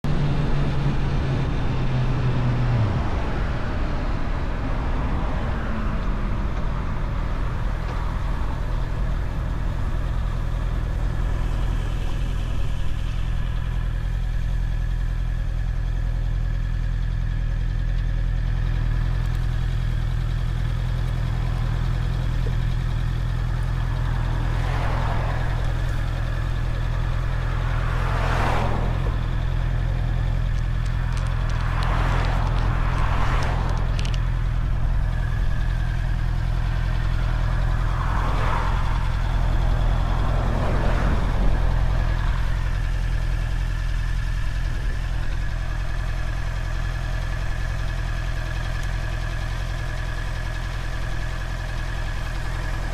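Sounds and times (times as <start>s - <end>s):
motorcycle engine running: 5.8s - 52.9s.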